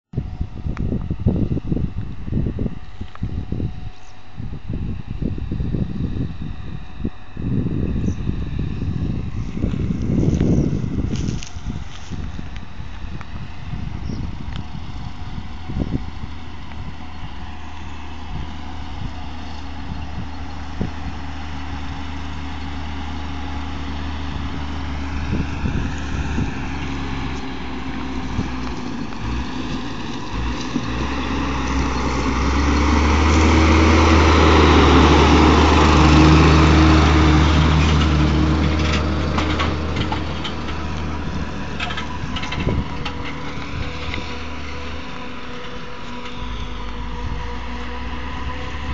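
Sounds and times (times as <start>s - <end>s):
tractor diesel engine passing: 7.5s - 48.9s.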